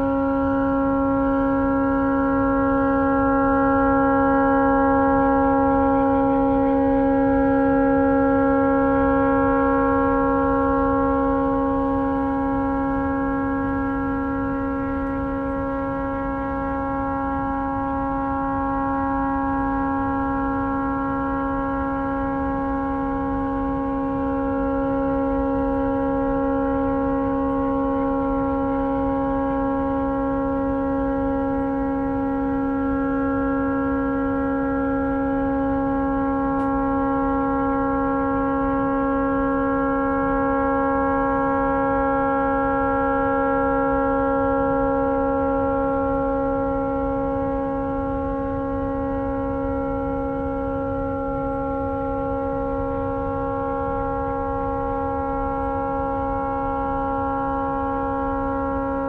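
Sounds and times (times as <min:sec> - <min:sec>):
boat horn steady chord: 0:00.0 - 0:59.0.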